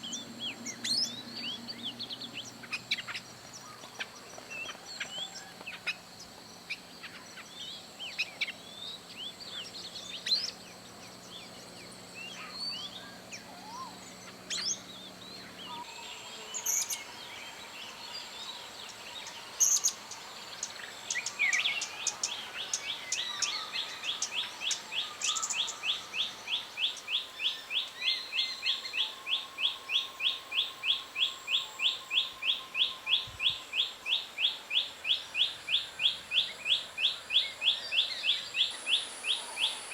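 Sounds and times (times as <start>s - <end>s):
birds chirping and whistling: 0.0s - 6.0s, 6.7s - 39.9s.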